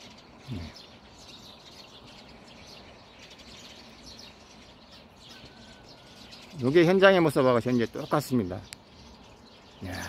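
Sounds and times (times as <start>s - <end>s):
outdoor background hiss: 0.0s - 10.0s
small birds chirping faintly: 0.0s - 10.0s.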